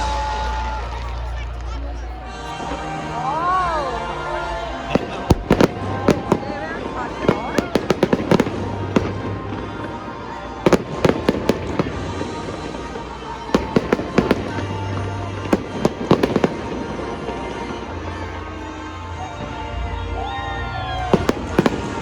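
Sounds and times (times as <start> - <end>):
fireworks cracks and bangs: 4.4 - 22.0.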